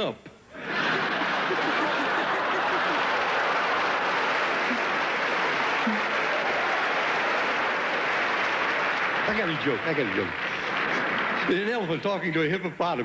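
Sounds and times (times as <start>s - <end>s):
audience laughing: 0.5s - 12.4s
audience applauding: 0.6s - 12.6s.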